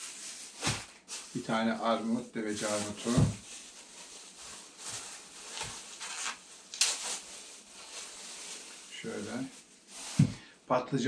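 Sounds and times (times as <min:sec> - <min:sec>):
plastic bag rustling and crinkling: 0:00.0 - 0:10.7.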